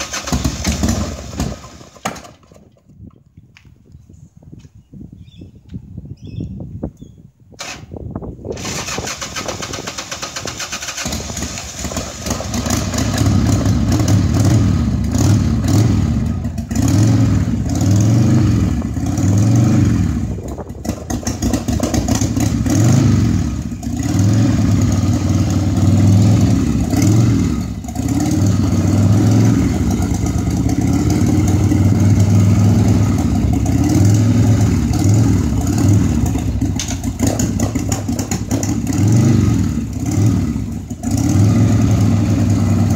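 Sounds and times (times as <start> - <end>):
motorcycle engine revving: 0.0 - 2.0, 8.5 - 42.9.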